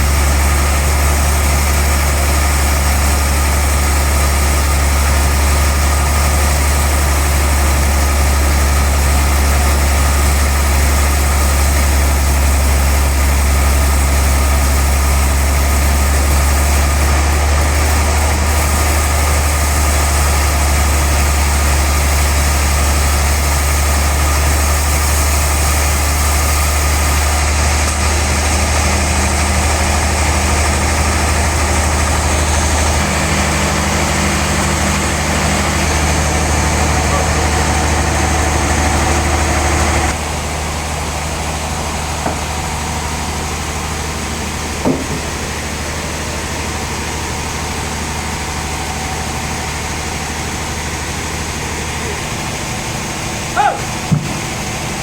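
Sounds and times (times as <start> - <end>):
sawmill machinery hum: 0.0 - 55.0.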